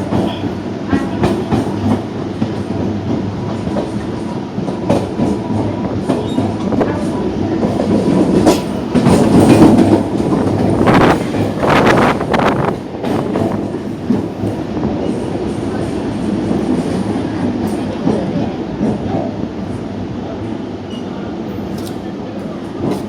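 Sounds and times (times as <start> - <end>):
train running hum: 0.0 - 23.0.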